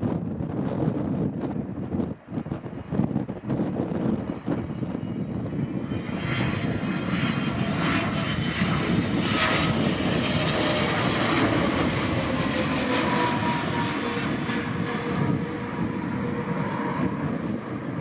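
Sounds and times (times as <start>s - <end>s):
jet airliner passing by: 0.0s - 18.0s.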